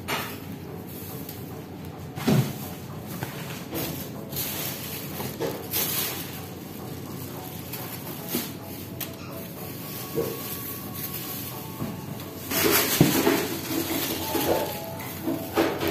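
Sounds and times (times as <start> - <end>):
plastic sheet rustling and crinkling: 2.2 - 15.9.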